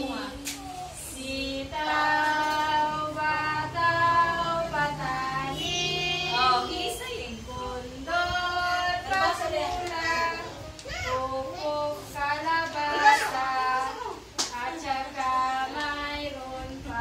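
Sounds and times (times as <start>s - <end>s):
children singing: 0.0s - 17.0s
woman singing: 0.0s - 17.0s.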